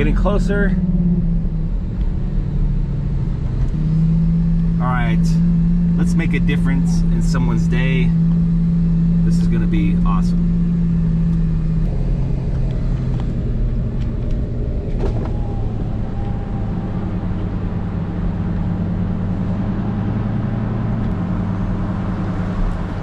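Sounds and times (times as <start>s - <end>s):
car engine running at low speed: 0.0s - 23.0s.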